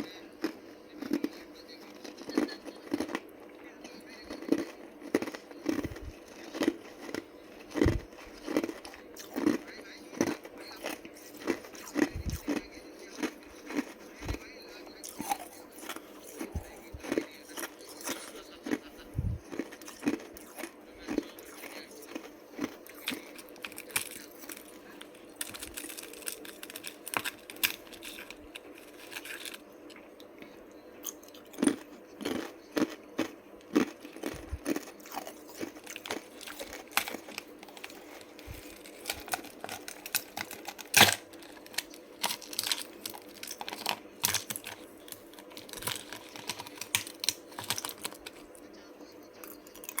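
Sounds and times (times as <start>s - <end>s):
person chewing ice crunches: 0.0s - 3.4s, 4.2s - 48.6s.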